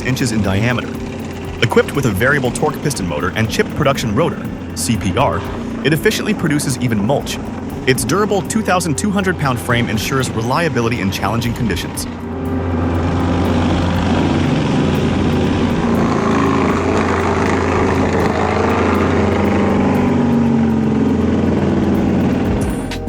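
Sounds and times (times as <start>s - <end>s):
forestry mulcher droning: 0.0s - 23.0s.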